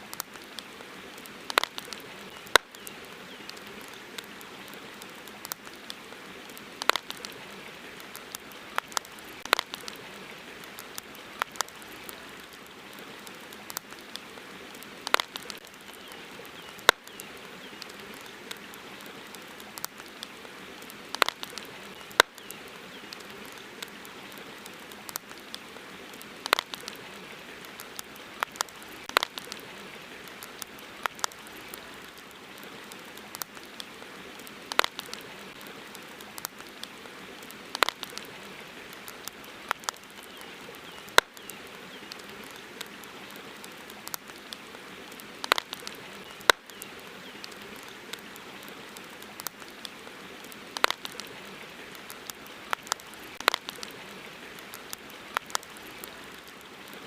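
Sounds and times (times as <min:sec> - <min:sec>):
campfire crackling and popping: 0:00.0 - 0:57.0
running river water: 0:00.0 - 0:57.0.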